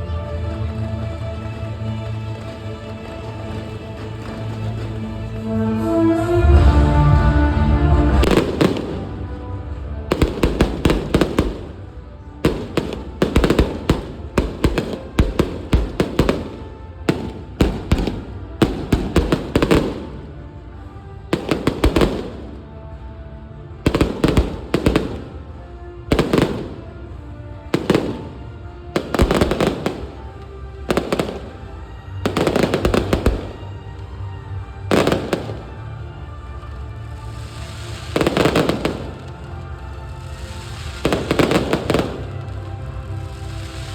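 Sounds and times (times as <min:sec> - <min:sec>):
fireworks bursting and crackling: 0:00.0 - 0:05.5, 0:08.1 - 0:23.1, 0:23.8 - 0:43.9
music playing: 0:00.0 - 0:43.9.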